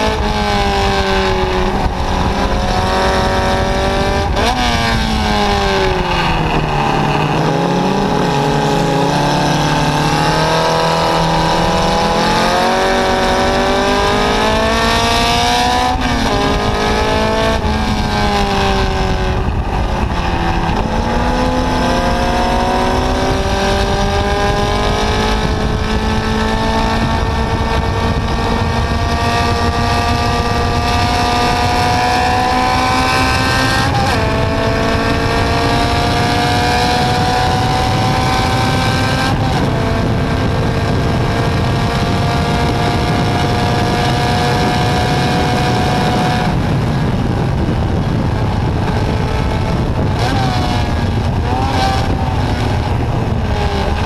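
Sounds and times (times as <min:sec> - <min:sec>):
racing car engine: 0:00.0 - 0:54.0.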